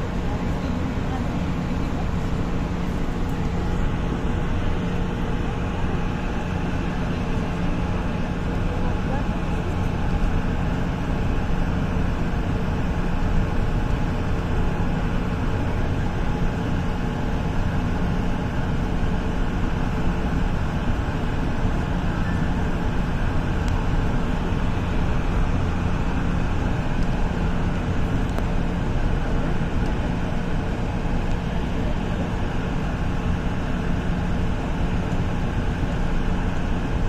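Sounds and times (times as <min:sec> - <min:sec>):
light rail train rumbling: 0:00.0 - 0:37.0.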